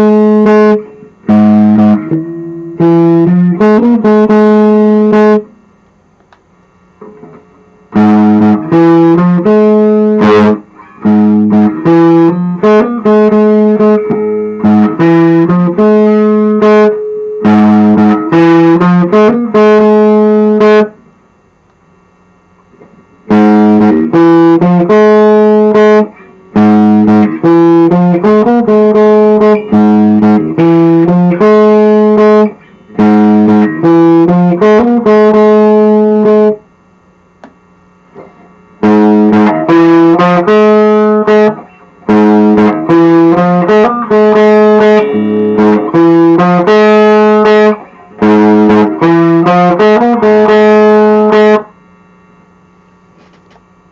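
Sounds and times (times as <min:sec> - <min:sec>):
electric guitar chords through amplifier: 0:00.0 - 0:53.9.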